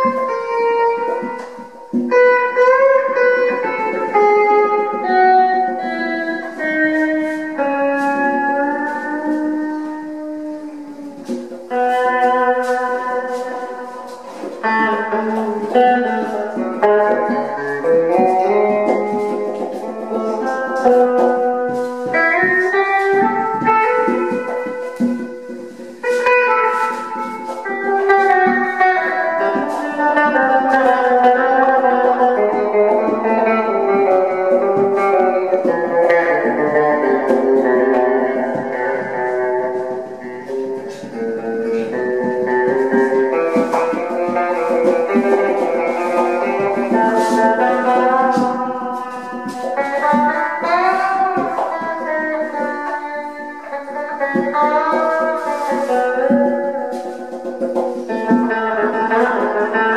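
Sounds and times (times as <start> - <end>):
improvised guitar music: 0.0 - 59.9.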